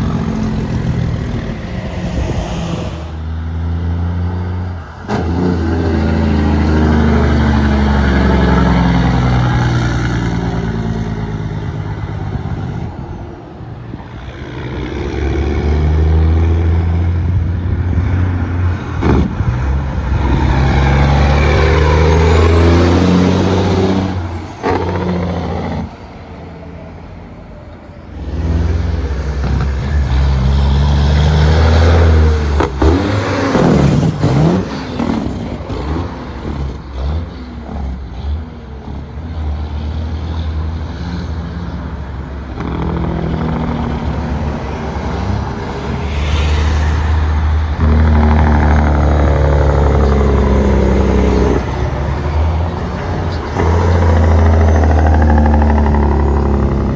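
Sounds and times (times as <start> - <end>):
diesel trucks passing: 0.0 - 56.9.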